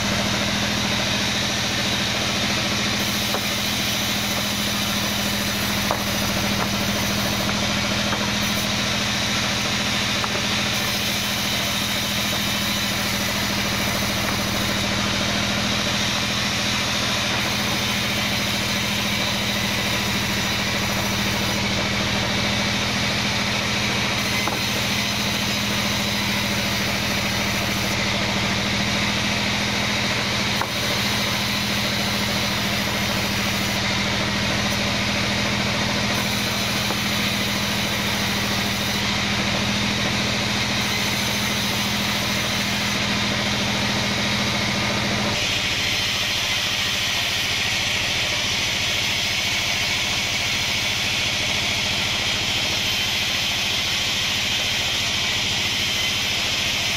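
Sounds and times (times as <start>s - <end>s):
saw blade cutting wood: 0.0s - 56.9s
sawmill machine drone: 0.0s - 56.9s.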